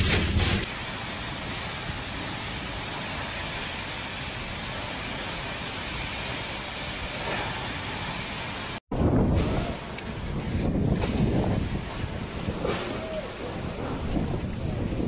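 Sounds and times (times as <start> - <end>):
heavy rainstorm with wind: 0.0 - 15.0.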